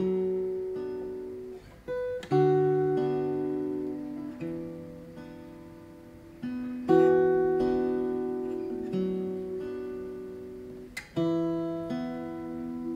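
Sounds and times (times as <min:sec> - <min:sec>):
slow plucked guitar chords: 0:00.0 - 0:12.9.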